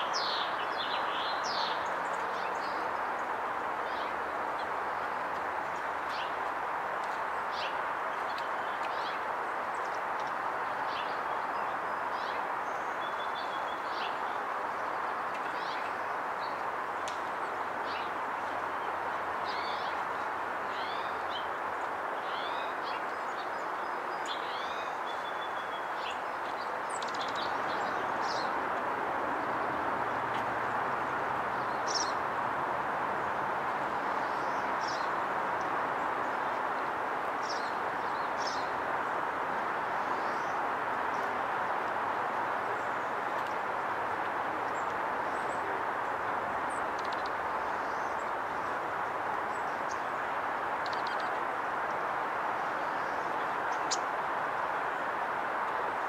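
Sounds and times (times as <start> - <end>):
outdoor background rush: 0.0 - 56.0
songbirds chirping: 0.0 - 56.0.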